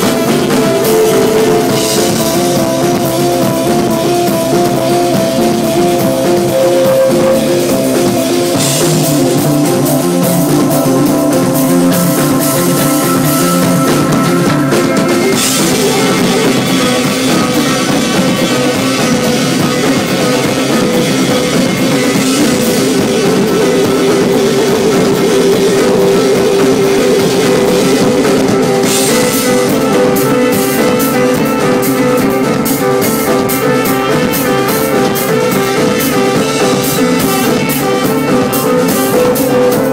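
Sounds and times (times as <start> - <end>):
drum kit: 0.0 - 39.9
electric guitar: 0.0 - 39.9
keyboard: 0.0 - 39.9.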